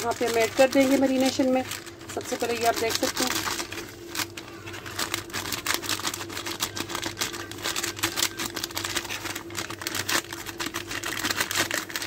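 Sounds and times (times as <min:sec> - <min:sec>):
plastic pouch crinkling: 0:00.0 - 0:12.0.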